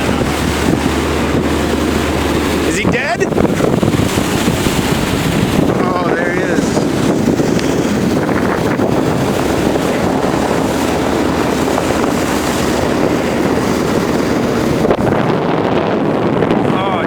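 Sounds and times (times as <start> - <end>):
motorboat engine running: 0.0 - 17.0
water noise: 0.0 - 17.0
wind buffeting microphone: 0.0 - 17.0.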